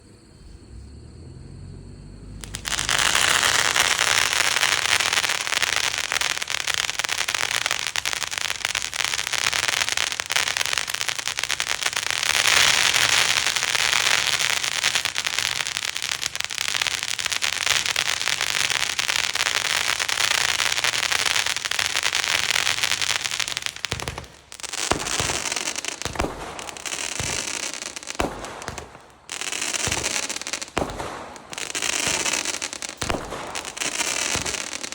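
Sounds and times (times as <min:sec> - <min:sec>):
firework fountain hissing crackle: 0:02.4 - 0:34.9
firework tubes firing shots: 0:02.4 - 0:34.9.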